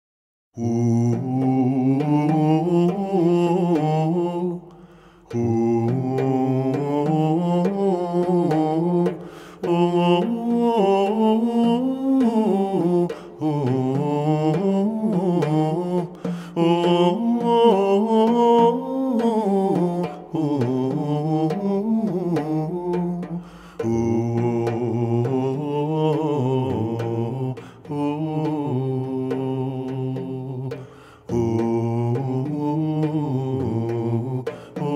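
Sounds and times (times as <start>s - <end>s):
low voice singing slowly: 0.6s - 34.9s.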